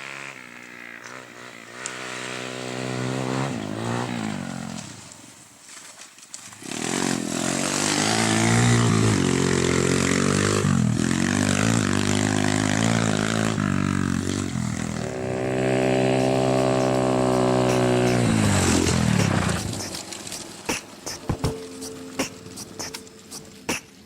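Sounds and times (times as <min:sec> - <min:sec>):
motorcycle engine shifting gears: 0:00.0 - 0:05.2, 0:06.4 - 0:24.0.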